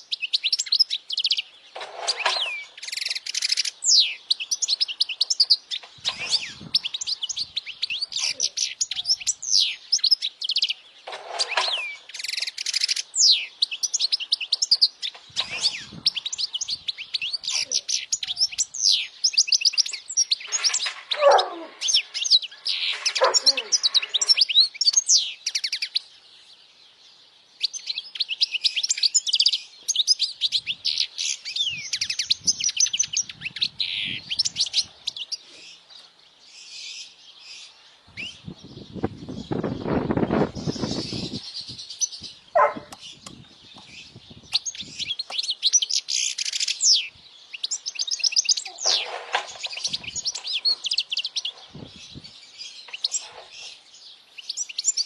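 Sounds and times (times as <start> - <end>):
finch singing: 0.0 - 55.0.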